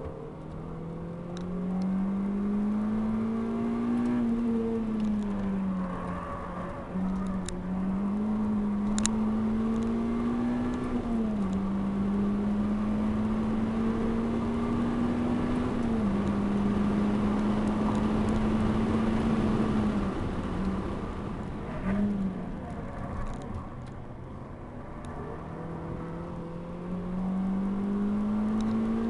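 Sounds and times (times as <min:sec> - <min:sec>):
car engine revving high: 0:00.6 - 0:06.1, 0:06.8 - 0:21.3, 0:25.4 - 0:29.0.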